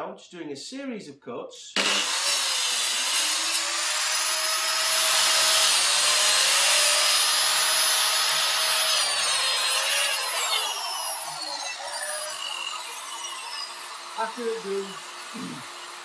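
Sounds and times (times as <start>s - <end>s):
circular saw cutting wood: 1.8s - 16.0s.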